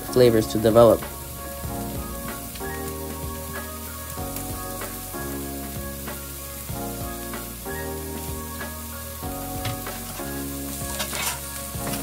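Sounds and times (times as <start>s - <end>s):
background music of sustained chords: 0.0s - 12.0s
vegetables sizzling in oil: 0.0s - 12.0s.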